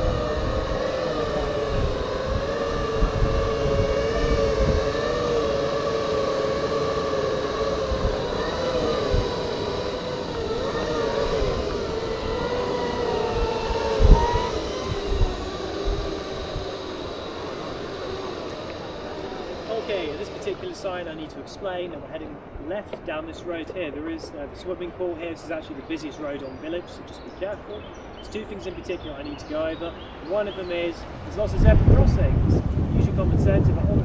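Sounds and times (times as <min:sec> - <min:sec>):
wind rumbling on microphone: 0:00.0 - 0:23.3, 0:29.5 - 0:34.0
electric motors whining: 0:00.0 - 0:34.0.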